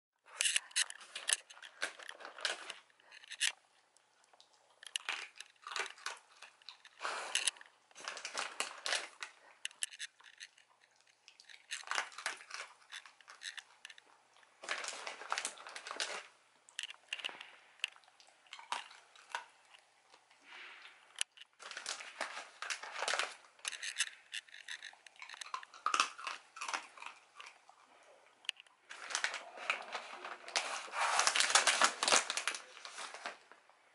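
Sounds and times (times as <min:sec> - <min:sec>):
dog crunching hard treats: 0:00.3 - 0:20.3, 0:21.1 - 0:33.4.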